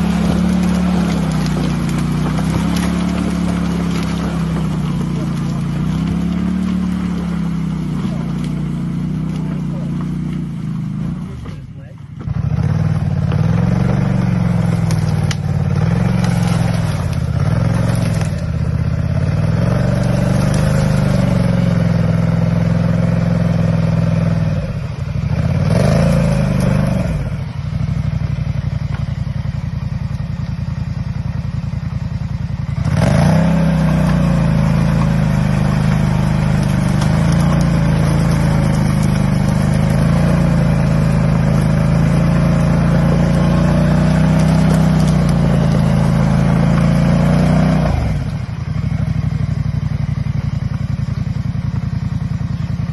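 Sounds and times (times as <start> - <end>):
quad engine revving: 0.0 - 29.1, 30.5 - 52.9.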